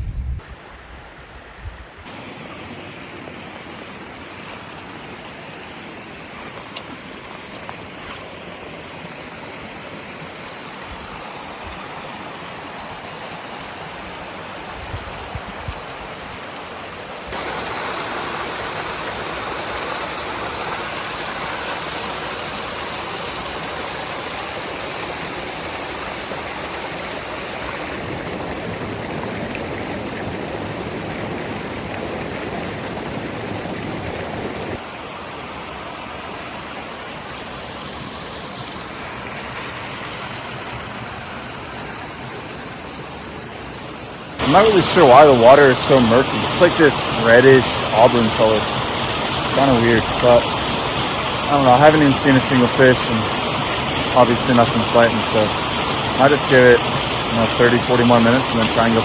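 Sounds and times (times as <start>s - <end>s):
creek water rushing: 0.4s - 59.0s.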